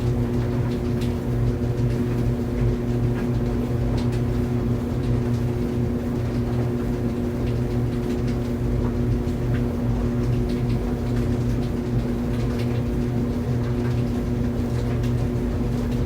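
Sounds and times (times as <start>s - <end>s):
clothes dryer running: 0.0s - 16.0s.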